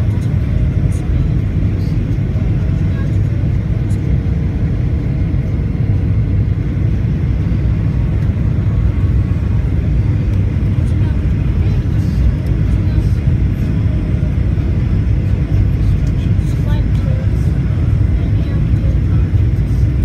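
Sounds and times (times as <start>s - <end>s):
faint steady whine: 0.0s - 20.0s
jet engine rumble in cabin: 0.0s - 20.0s.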